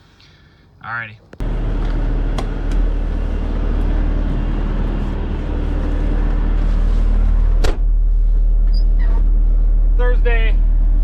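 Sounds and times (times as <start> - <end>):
truck engine running: 1.4 - 11.0.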